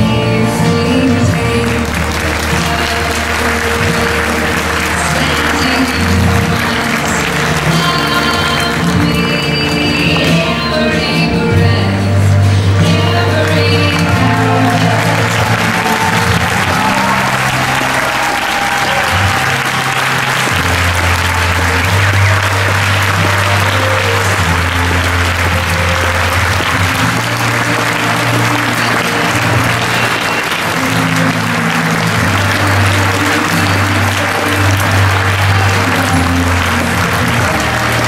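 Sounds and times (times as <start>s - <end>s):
audience applauding: 0.0s - 38.0s
music with held bass notes: 0.0s - 38.0s.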